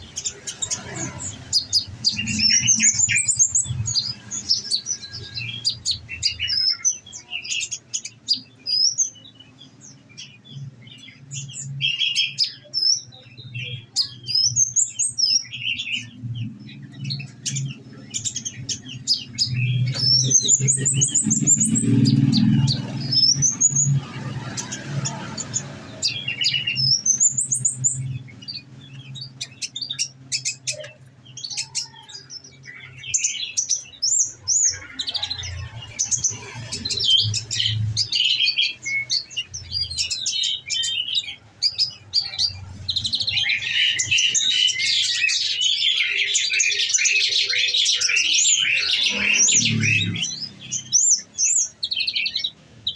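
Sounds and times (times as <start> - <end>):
bird singing high chirps: 0.0 - 52.9.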